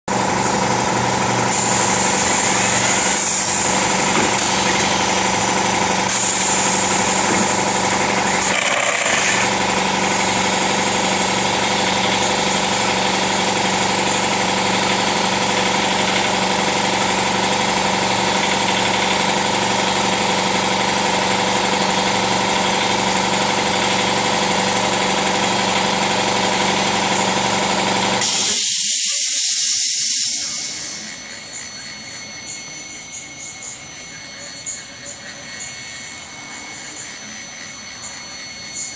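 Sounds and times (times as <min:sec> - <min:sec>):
steady hum: 0:00.1 - 0:18.9, 0:19.6 - 0:38.9
high whine: 0:00.1 - 0:38.9
mill machine drone: 0:00.1 - 0:38.9.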